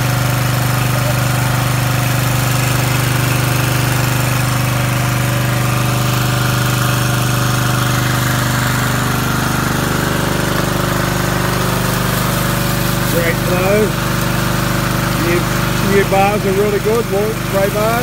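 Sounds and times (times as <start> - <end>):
engine-driven water pump running: 0.0 - 18.0.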